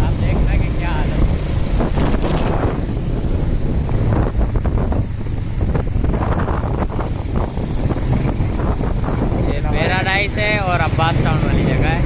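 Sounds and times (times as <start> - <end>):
vehicle engine running: 0.0 - 12.0
wind rumbling on microphone: 0.0 - 12.0.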